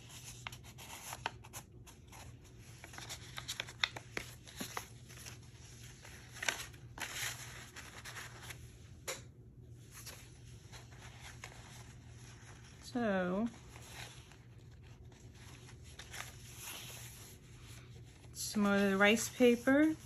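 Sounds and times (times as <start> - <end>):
pages turning: 0.0 - 8.8, 9.8 - 18.4
paper rustling and sliding: 0.0 - 8.8, 9.8 - 20.0.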